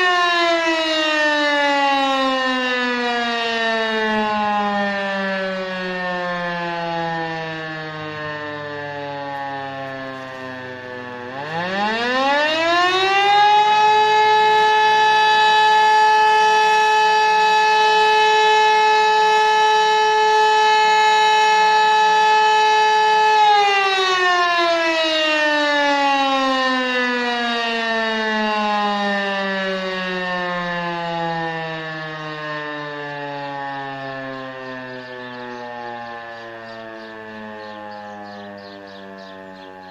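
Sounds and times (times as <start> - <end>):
electromechanical siren howling: 0.0 - 39.9.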